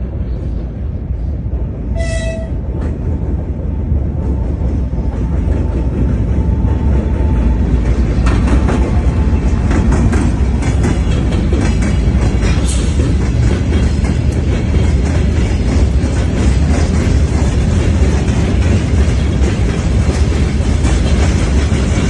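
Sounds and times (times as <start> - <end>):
locomotive low rumble: 0.0 - 22.0
wheels clicking over rail joints: 2.0 - 22.0.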